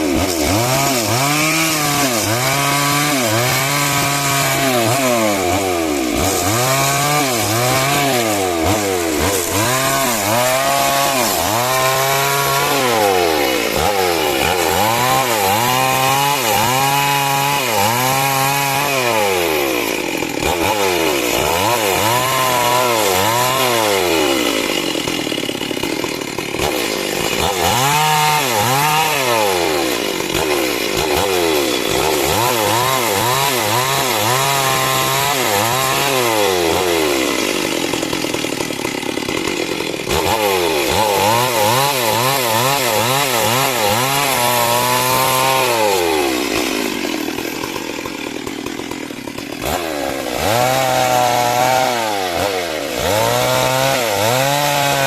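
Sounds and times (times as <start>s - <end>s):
chainsaw cutting timber: 0.0s - 55.0s.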